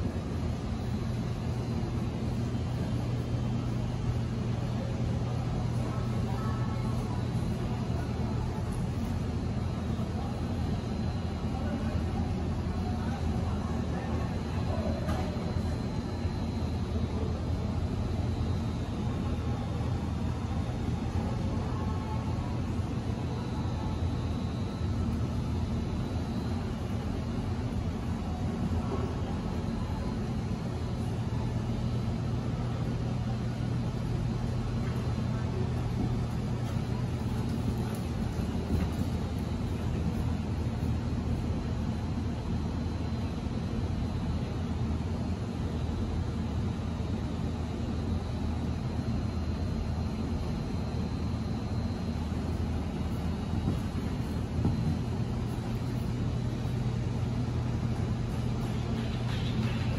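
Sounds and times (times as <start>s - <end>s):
indoor arena background hum: 0.0s - 59.9s.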